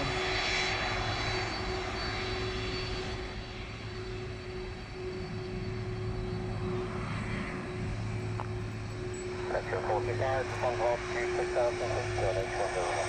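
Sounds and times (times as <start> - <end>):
jet engines whining and rumbling: 0.0 - 13.0.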